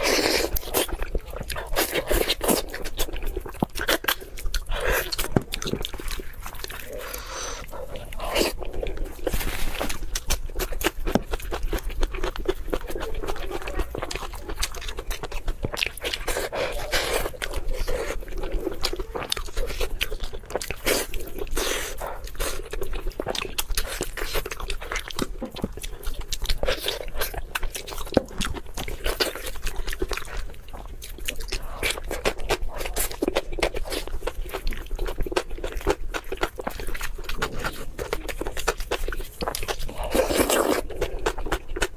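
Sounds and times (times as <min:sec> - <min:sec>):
crunchy eating: 0:00.0 - 0:41.9.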